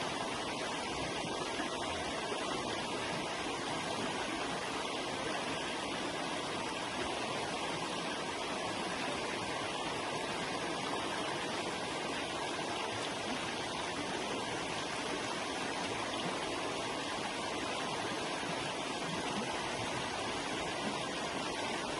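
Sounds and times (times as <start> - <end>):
river rushing over rocks: 0.0 - 21.9.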